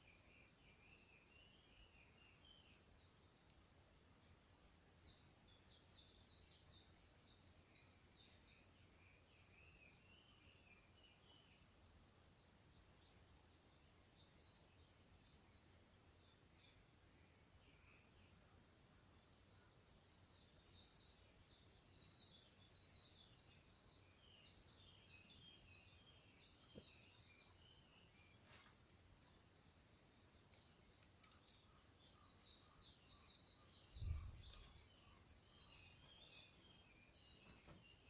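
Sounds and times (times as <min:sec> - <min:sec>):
faint bird song: 0:00.0 - 0:38.0.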